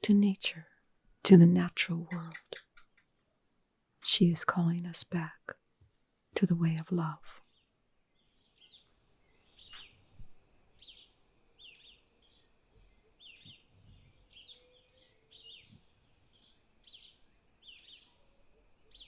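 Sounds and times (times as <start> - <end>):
faint birdsong chirps: 0.0 - 19.0.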